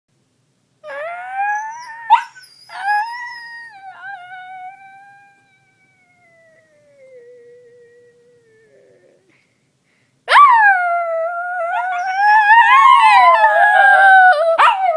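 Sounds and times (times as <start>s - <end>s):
dog howling: 0.8s - 9.3s, 10.3s - 14.9s.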